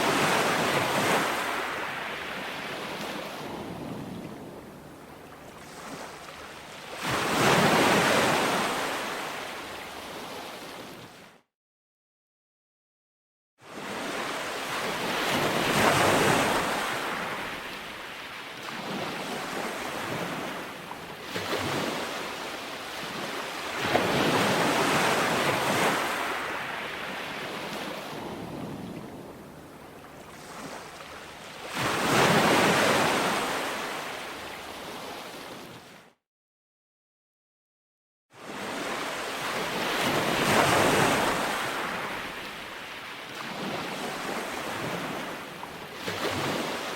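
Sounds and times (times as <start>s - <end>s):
ocean waves on shore: 0.0s - 11.4s, 13.6s - 36.2s, 38.4s - 46.9s.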